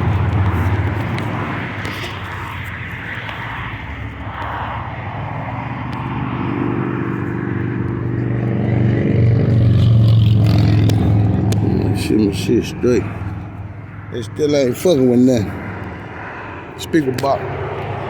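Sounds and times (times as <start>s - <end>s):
traffic noise: 0.0s - 18.0s
vehicle engine humming: 0.0s - 18.0s.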